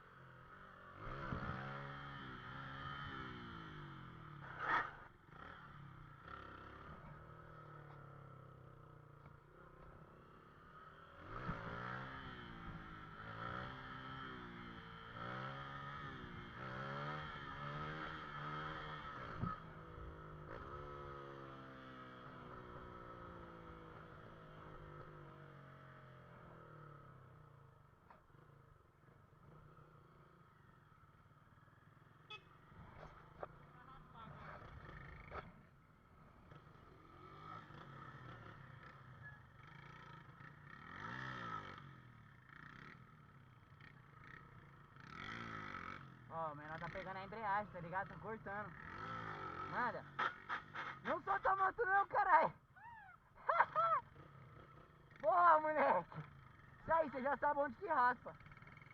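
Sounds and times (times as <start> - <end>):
motorcycle engine revving: 0.4 - 10.0, 10.6 - 27.6, 32.2 - 51.9, 53.4 - 58.9.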